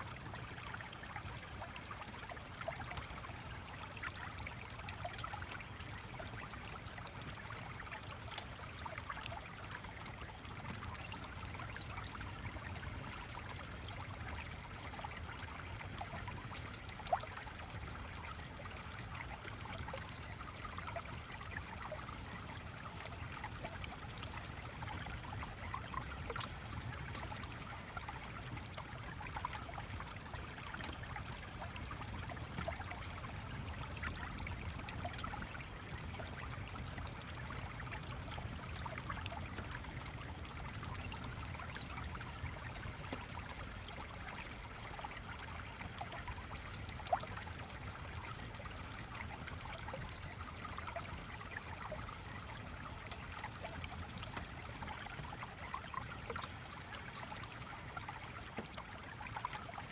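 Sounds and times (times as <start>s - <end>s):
stream trickling: 0.0s - 59.9s.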